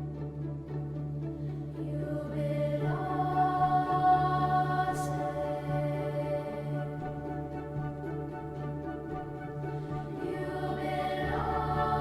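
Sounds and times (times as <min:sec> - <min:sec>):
choir singing held chords: 0:01.5 - 0:12.0.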